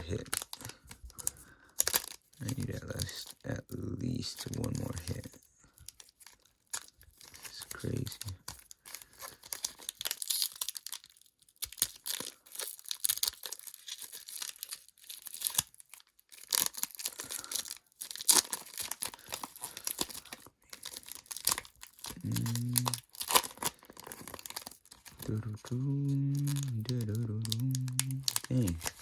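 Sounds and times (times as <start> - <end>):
foil wrappers crinkling and tearing: 0.0 - 29.0.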